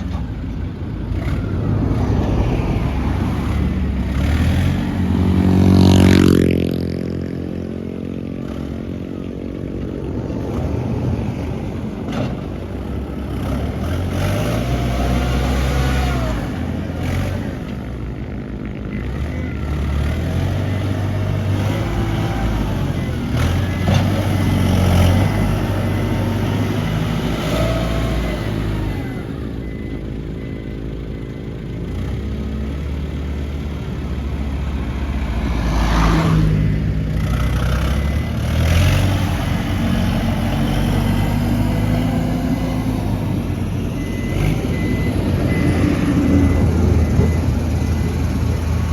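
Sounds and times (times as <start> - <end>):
heavy diesel engine revving: 0.0 - 48.9.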